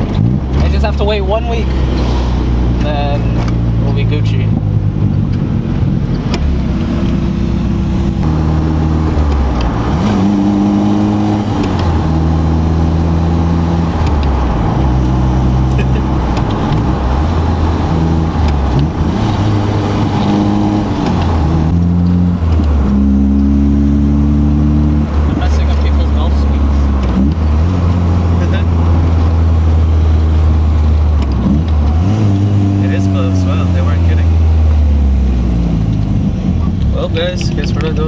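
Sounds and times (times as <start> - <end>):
car engine shifting gears: 0.0 - 38.0.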